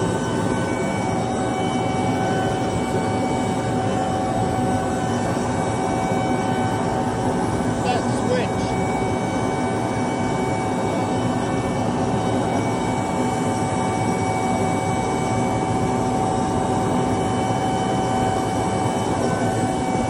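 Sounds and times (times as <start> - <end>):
conveyor machine hum: 0.0 - 16.1.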